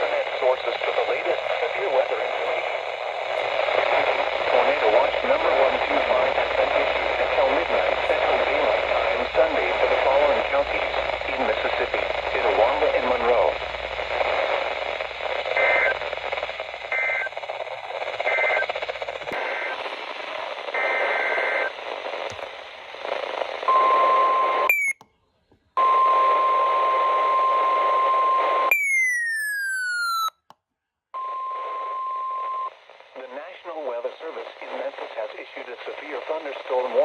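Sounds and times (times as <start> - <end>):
radio static: 0.0 - 24.9, 25.8 - 28.8, 31.5 - 37.0.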